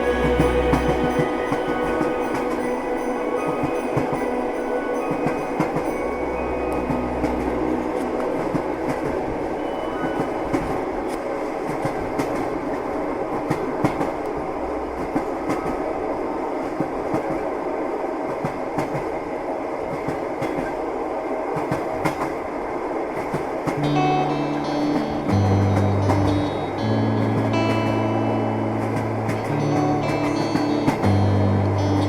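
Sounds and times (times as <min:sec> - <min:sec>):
wheels clicking over rail joints: 0:00.0 - 0:17.6, 0:19.8 - 0:20.9, 0:21.5 - 0:32.0
train rumble: 0:00.0 - 0:32.0.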